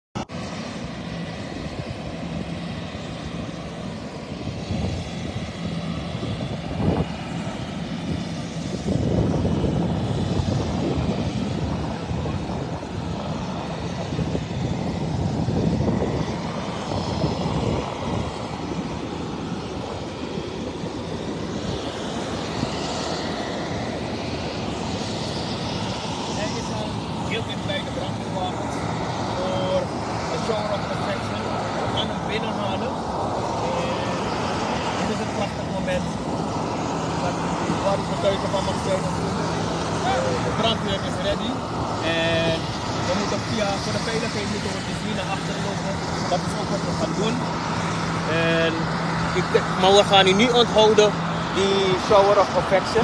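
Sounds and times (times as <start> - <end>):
jet engines rushing with whine: 0.2 - 53.0.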